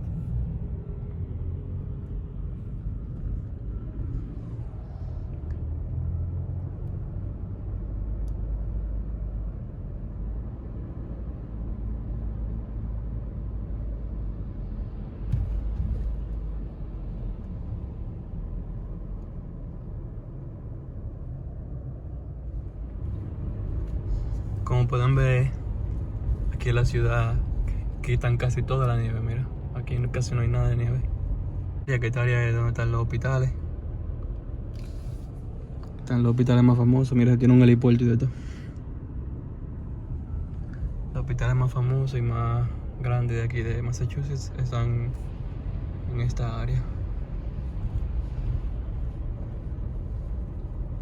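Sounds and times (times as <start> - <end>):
car engine and tyres rumbling: 0.0 - 51.0.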